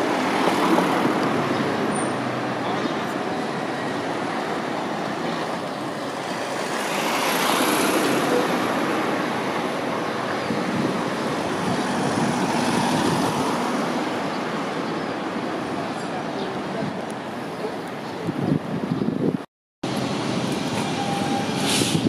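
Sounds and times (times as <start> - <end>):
tram passing: 0.0 - 19.0, 19.8 - 22.0
cars passing: 0.0 - 22.0.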